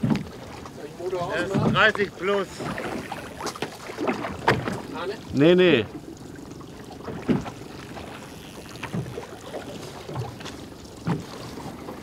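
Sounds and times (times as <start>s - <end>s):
waves slapping against hull: 0.0s - 12.0s
wind and sea hiss: 0.0s - 12.0s.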